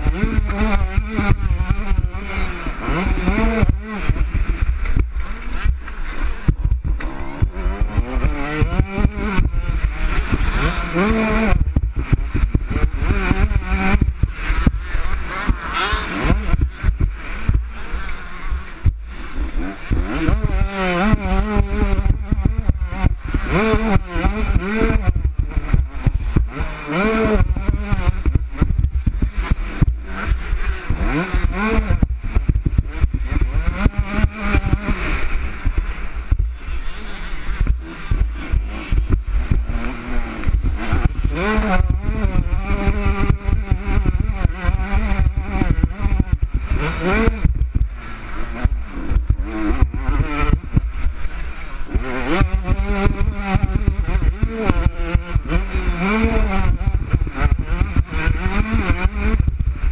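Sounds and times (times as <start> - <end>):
motorbike engine revving: 0.0 - 59.9
wind rumble: 0.0 - 59.9.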